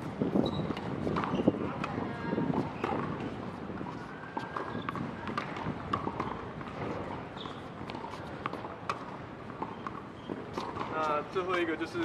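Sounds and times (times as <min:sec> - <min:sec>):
tennis balls hit and bouncing: 0:00.0 - 0:12.0
footsteps on court: 0:00.1 - 0:12.0.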